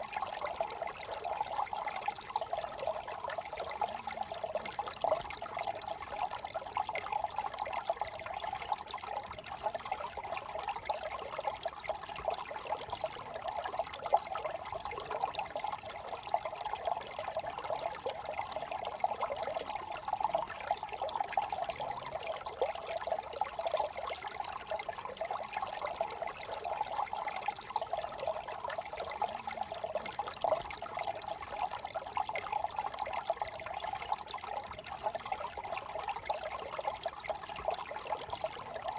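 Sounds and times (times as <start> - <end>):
brook burbling over stones: 0.0 - 38.9.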